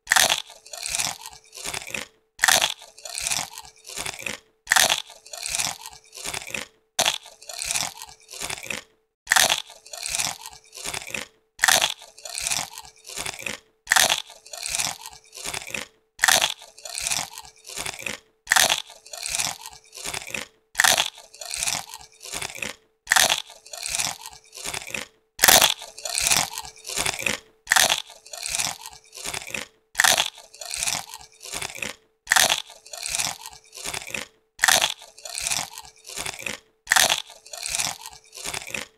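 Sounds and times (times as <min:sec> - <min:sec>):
potato chips crunching: 0:00.0 - 0:38.9.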